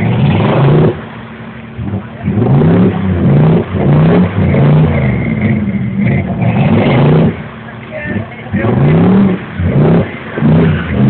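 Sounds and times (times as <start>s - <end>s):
engine revving hard: 0.0s - 11.0s.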